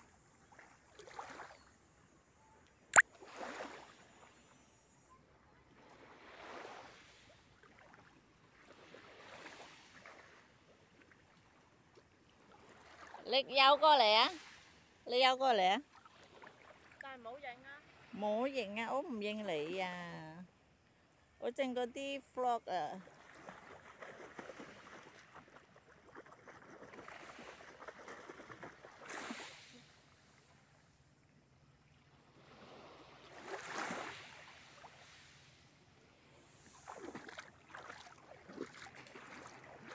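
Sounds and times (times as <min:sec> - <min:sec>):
small waves lapping at shoreline: 0:00.0 - 0:39.9.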